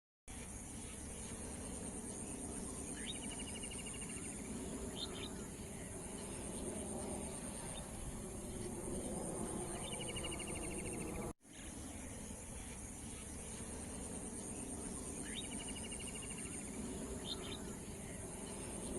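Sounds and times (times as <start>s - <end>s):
high-pitched insect chorus: 0.3s - 18.9s.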